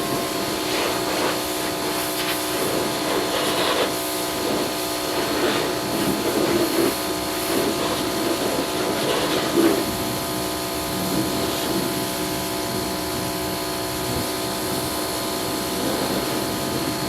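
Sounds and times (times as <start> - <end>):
pressure washer motor hum: 0.0 - 17.0.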